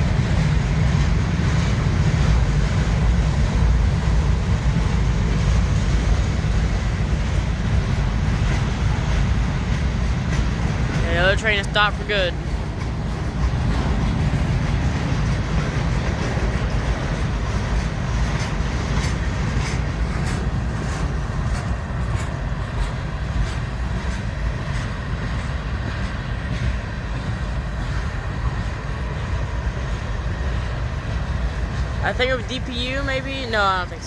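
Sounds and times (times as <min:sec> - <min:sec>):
freight train rumbling past: 0:00.0 - 0:34.0
wheels clicking over rail joints: 0:00.0 - 0:34.0.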